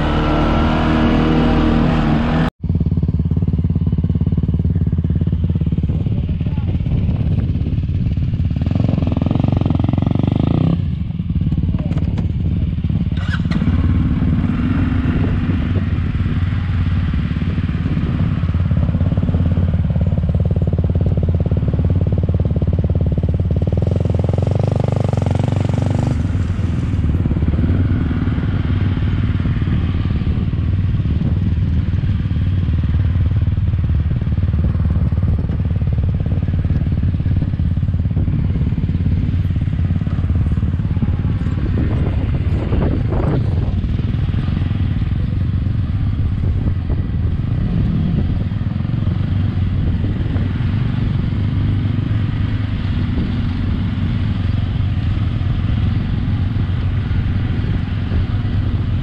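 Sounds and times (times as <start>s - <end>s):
other quad engines nearby: 0.0s - 59.0s
quad bike engine running: 0.0s - 59.0s.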